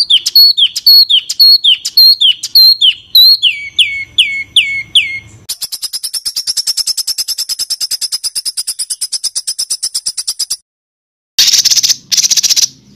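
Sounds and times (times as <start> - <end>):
bird harsh rattling trill: 0.0 - 10.6, 11.4 - 12.8
songbird downward-slurred whistles: 0.0 - 10.6.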